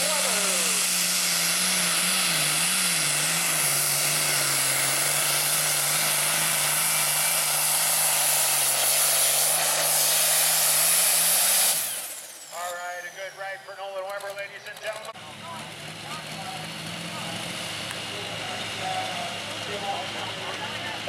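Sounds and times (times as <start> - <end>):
diesel tractor engine under load: 0.0 - 21.0.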